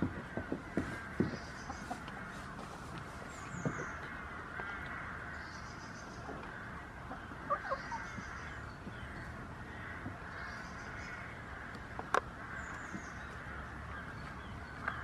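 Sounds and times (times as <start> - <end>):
birds cawing: 0.0 - 15.0.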